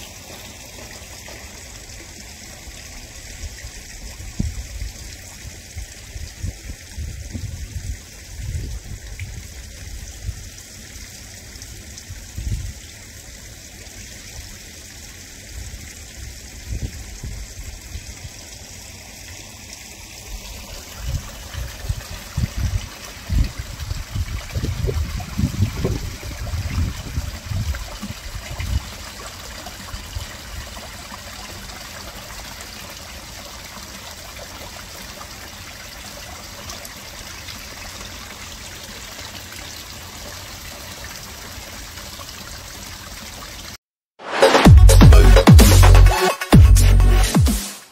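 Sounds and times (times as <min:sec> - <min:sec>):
pond water trickling and splashing: 0:00.0 - 0:43.8.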